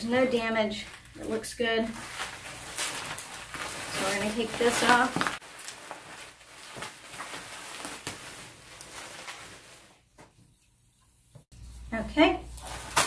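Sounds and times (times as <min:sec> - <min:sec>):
bubble wrap rustling and crinkling: 0:00.0 - 0:10.6, 0:12.4 - 0:13.0.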